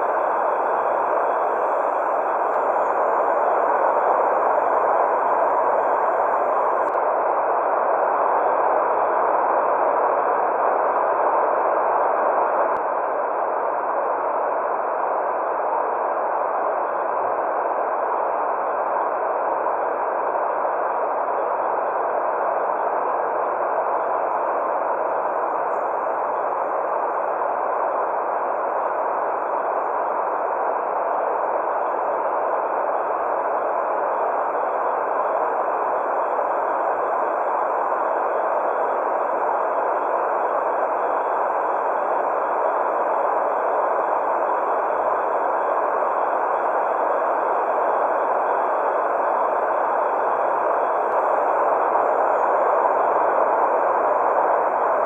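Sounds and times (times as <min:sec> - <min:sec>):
muffled white noise hiss: 0:00.0 - 0:55.0.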